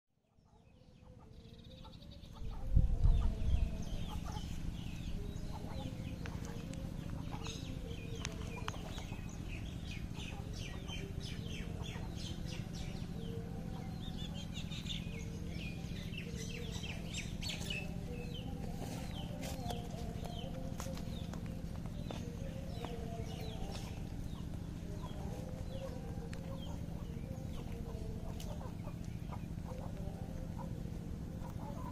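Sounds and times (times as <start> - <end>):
steady low hum: 0.3 - 31.9
chickens clucking: 0.4 - 31.9
low rumble on microphone: 0.8 - 31.9.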